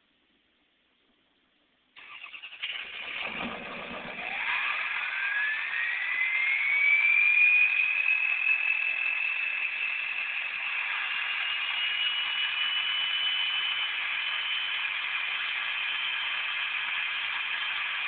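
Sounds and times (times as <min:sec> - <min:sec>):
turbo whistle whine: 0:02.0 - 0:17.8
diesel engine starting and idling: 0:02.0 - 0:18.0.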